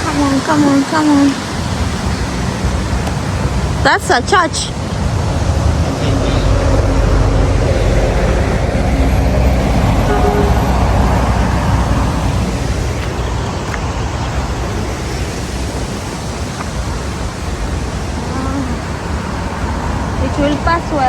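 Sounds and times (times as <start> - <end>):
road vehicle passing: 0.0 - 21.0.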